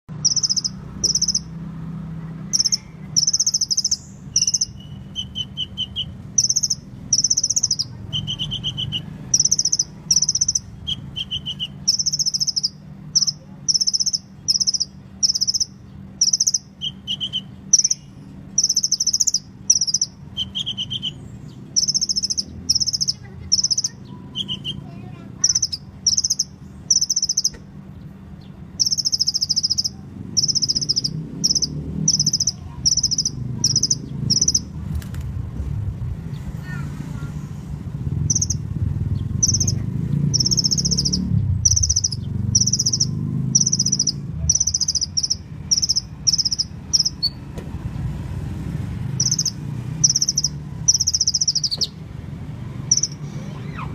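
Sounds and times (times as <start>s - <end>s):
steady low hum: 0.1s - 53.9s
sunbird trilled chirps: 0.2s - 1.6s, 2.4s - 34.7s, 38.2s - 47.5s, 49.1s - 52.0s, 52.8s - 53.3s.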